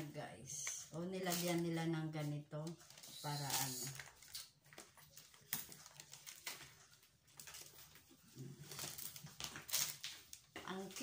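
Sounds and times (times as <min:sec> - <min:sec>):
handbag packaging rustling: 0:00.6 - 0:11.0.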